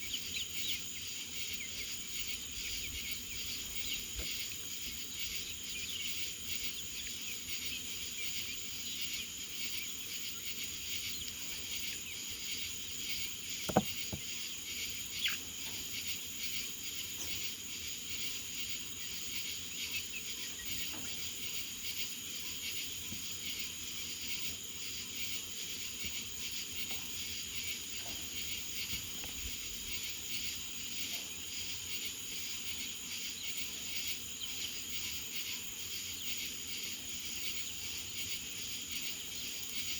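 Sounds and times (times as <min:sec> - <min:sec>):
insect chorus chirring: 0:00.0 - 0:39.9.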